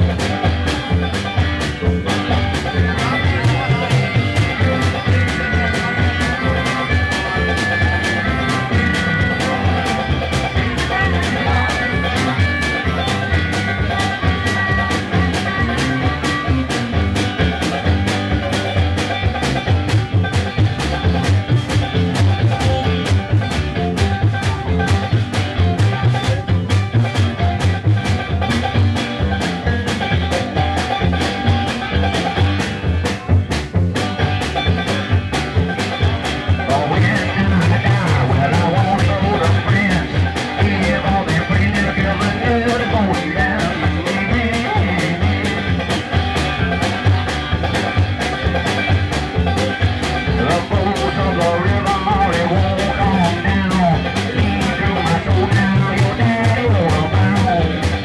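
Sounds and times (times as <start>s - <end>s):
banjo: 0.0s - 58.0s
drum kit: 0.0s - 58.0s
guitar: 0.0s - 58.0s
slapped upright bass: 0.0s - 58.0s.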